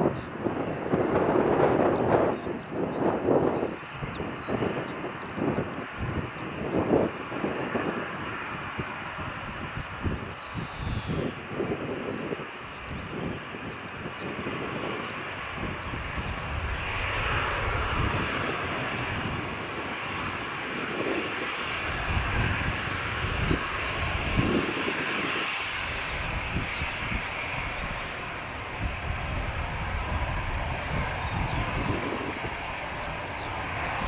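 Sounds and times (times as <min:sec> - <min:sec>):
jet engines rushing and rumbling: 0:00.0 - 0:34.0.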